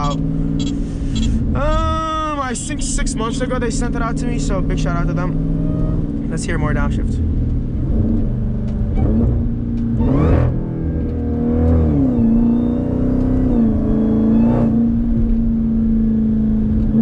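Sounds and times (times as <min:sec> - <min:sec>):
car engine revving: 0:00.0 - 0:17.0
supercharger whine: 0:00.0 - 0:17.0.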